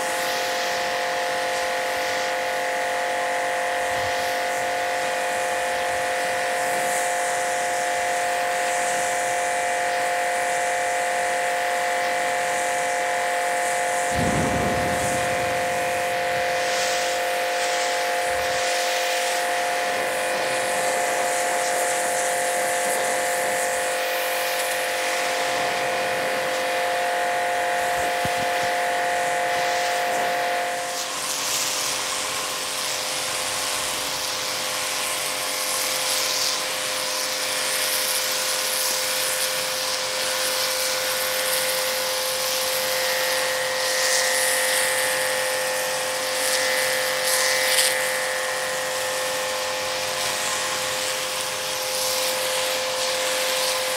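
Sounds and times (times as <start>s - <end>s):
pressure washer motor whine: 0.0s - 53.9s
water jet hissing on concrete: 0.0s - 53.9s.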